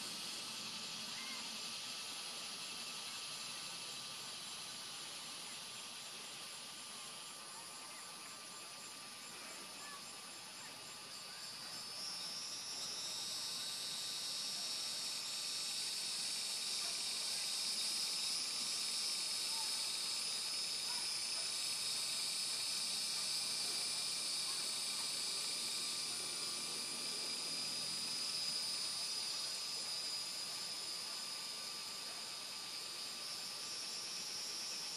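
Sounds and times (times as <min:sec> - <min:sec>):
insects buzzing: 0:00.0 - 0:34.9.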